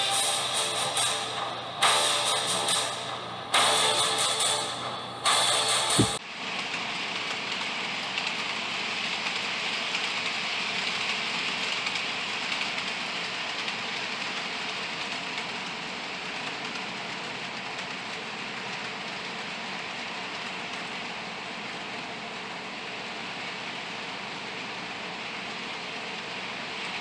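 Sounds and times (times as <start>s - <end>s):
model train motor whir: 0.0s - 27.0s.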